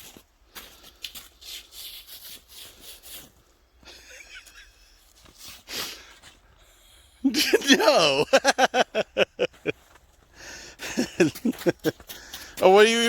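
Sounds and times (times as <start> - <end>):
footsteps crunching in snow: 0.0 - 6.8, 9.1 - 13.0.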